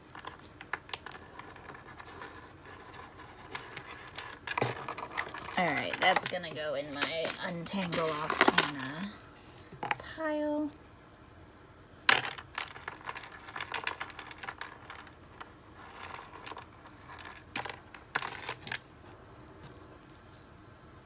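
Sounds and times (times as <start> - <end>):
jewelry and beads clinking: 0.0 - 21.0.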